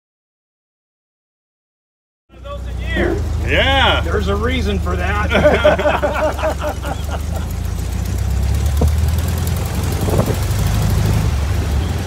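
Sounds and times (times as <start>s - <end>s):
car engine running: 2.3s - 12.0s.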